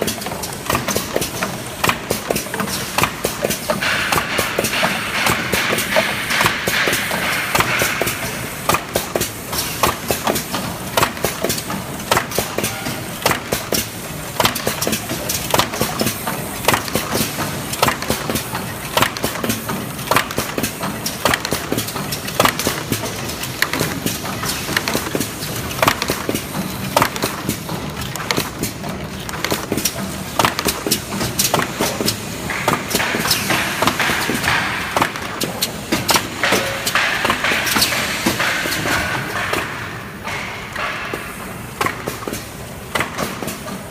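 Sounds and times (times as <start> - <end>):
packaging machine running: 0.0 - 43.9
sharp mechanical clacks: 0.0 - 43.9.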